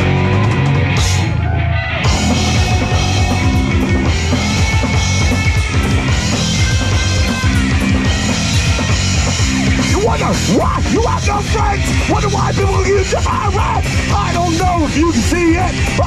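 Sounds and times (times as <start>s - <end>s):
fast driving drumming: 0.0s - 16.0s
punk rock band playing: 0.0s - 16.0s.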